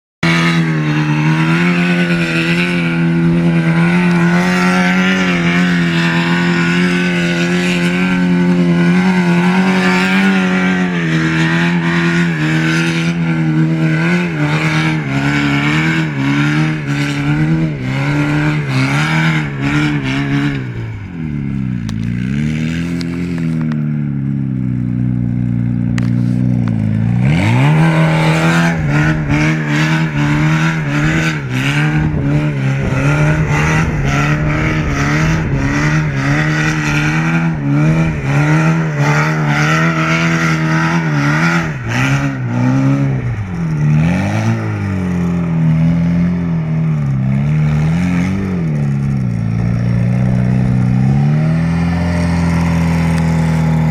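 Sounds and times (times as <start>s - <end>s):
buggy engine at high revs: 0.2s - 53.9s.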